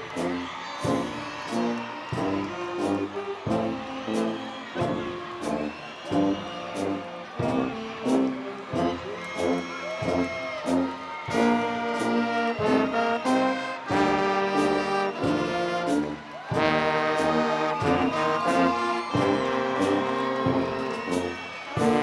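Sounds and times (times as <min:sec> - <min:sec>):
brass instruments playing chords: 0:00.0 - 0:22.0.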